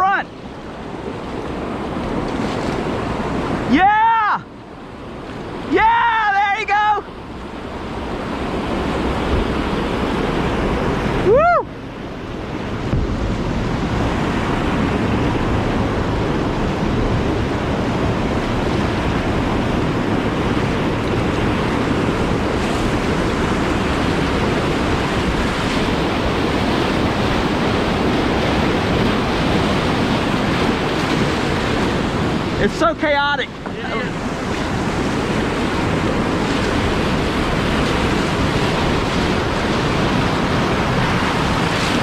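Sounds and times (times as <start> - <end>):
whitewater rushing through rapids: 0.0 - 42.0.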